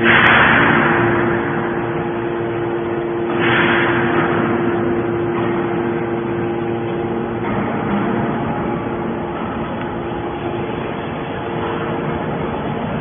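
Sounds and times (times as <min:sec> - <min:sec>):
baler motor and pump hum: 0:00.0 - 0:13.0.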